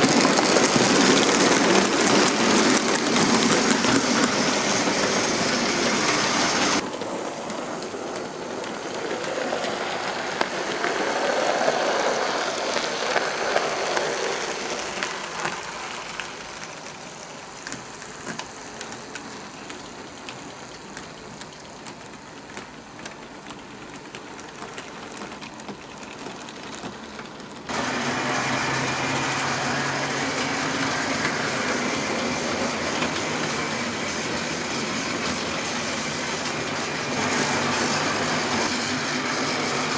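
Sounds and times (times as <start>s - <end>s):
model trains whirring: 0.0s - 39.9s
wheels clicking over rail joints: 0.0s - 39.9s.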